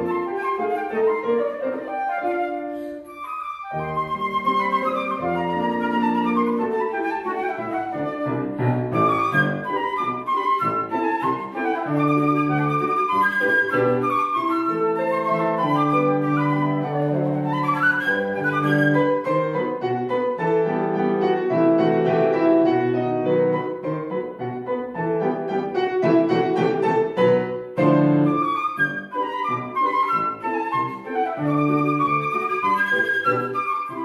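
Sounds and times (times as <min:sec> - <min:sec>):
flute playing: 0:00.0 - 0:25.4, 0:26.0 - 0:34.0
grand piano playing: 0:00.0 - 0:34.0.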